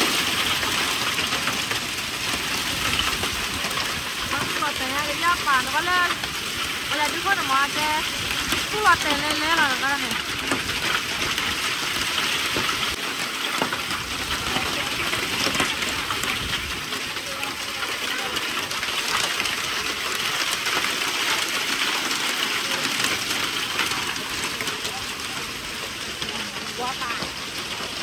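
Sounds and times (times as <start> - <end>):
heavy rain on a metal roof: 0.0 - 28.0
water pouring off roof: 0.0 - 28.0.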